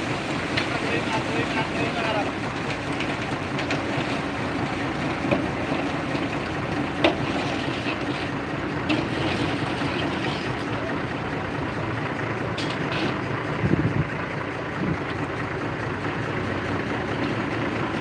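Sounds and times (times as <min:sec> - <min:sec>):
concrete mixer truck running: 0:00.0 - 0:18.0.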